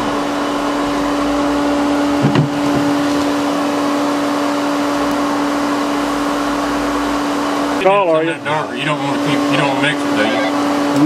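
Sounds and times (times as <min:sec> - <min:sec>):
vacuum motor humming: 0:00.0 - 0:11.0.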